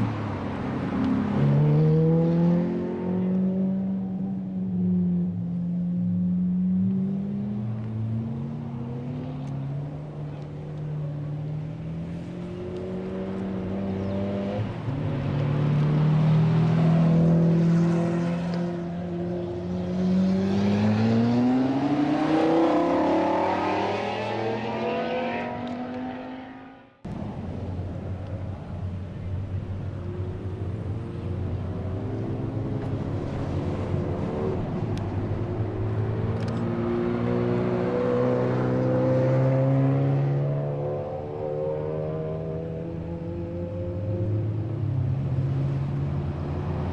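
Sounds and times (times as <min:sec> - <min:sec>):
supercar engines revving: 0:00.0 - 0:46.9.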